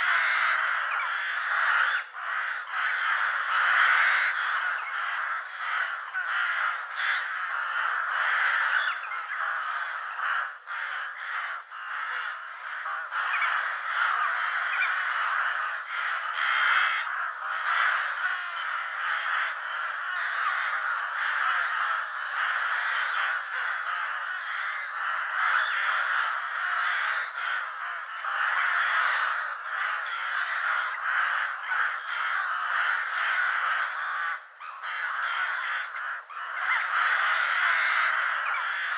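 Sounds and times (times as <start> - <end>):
crows cawing: 0.0 - 38.9.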